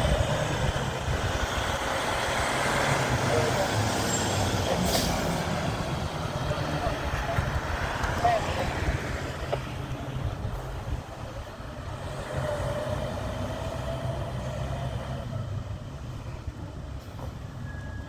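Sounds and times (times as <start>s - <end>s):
fire engine rumbling: 0.0s - 18.0s.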